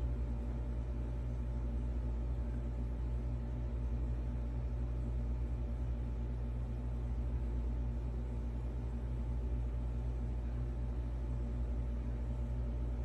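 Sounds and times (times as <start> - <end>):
low mechanical machine hum: 0.0 - 13.0.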